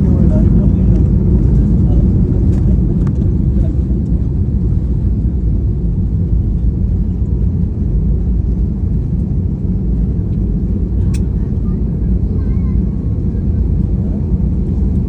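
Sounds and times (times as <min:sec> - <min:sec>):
airliner low rumble: 0:00.0 - 0:15.0.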